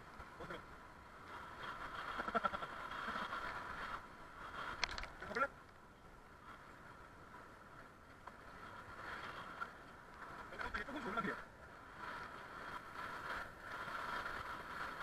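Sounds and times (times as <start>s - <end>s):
wind and rolling tyres hiss: 0.0s - 15.0s.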